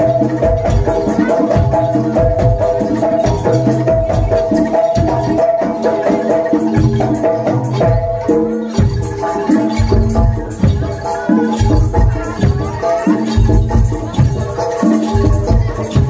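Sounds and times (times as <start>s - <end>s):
metal percussion melody: 0.0s - 16.0s.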